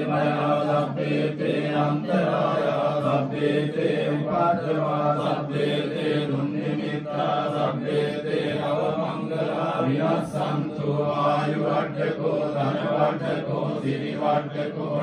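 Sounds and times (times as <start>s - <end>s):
monks chanting in unison: 0.0s - 15.0s.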